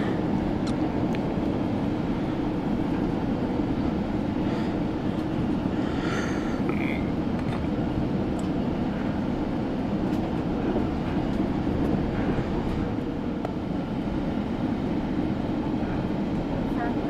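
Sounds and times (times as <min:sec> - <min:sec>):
moving train rumble: 0:00.0 - 0:17.0.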